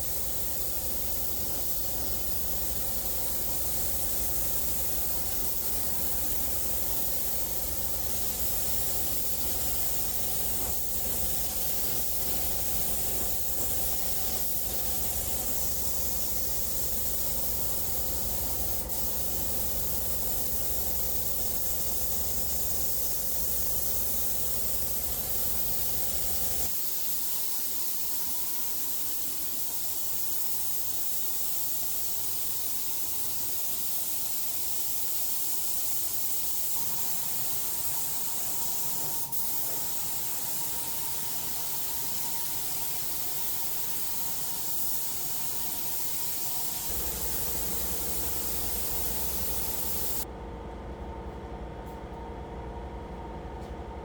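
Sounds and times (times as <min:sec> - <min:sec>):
low machine hum: 0:00.0 - 0:26.7, 0:36.8 - 0:54.0
spray gun air hiss: 0:00.0 - 0:50.2.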